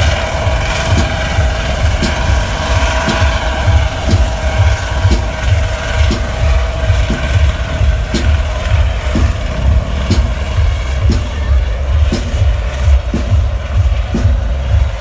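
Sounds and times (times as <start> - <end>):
helicopter engine whine: 0.0 - 15.0
helicopter rotor thump: 0.0 - 15.0.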